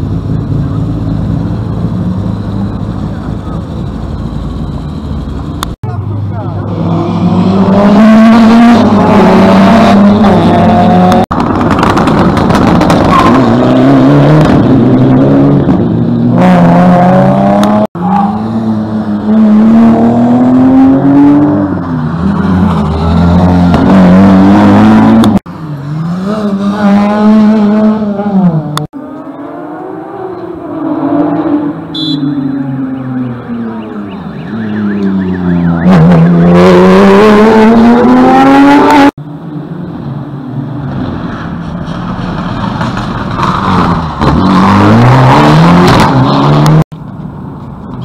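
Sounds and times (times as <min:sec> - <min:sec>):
rally car engines revving past: 0:06.5 - 0:39.2, 0:40.7 - 0:46.9.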